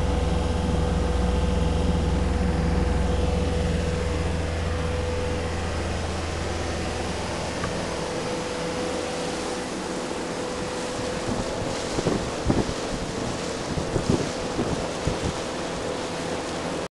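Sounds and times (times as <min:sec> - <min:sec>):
boat engine hum: 0:00.0 - 0:16.9
rushing water: 0:00.0 - 0:16.9
wind: 0:00.0 - 0:16.9.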